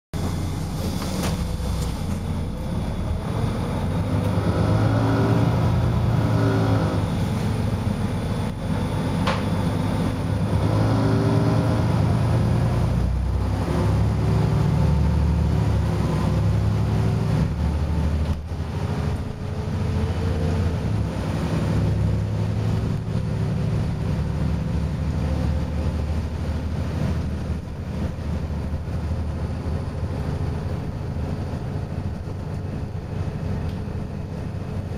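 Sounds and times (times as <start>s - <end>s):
bus diesel engine: 0.1s - 34.9s.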